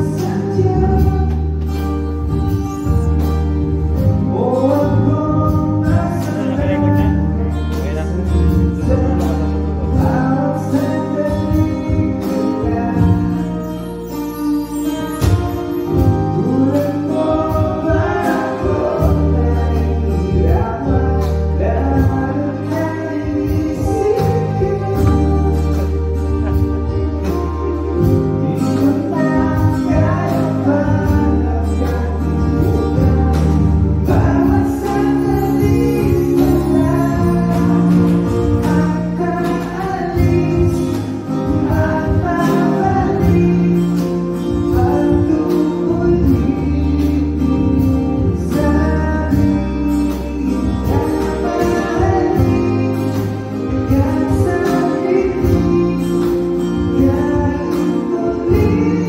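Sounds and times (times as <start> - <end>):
person singing: 0.0 - 1.8, 4.0 - 14.0, 14.8 - 59.0
acoustic band playing: 0.0 - 59.0.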